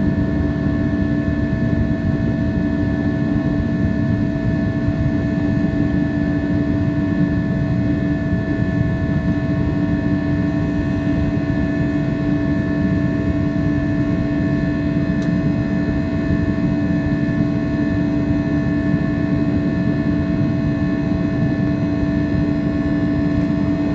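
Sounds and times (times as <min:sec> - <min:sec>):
constant humming tones: 0:00.0 - 0:23.9
jet engine and airflow rumble: 0:00.0 - 0:23.9.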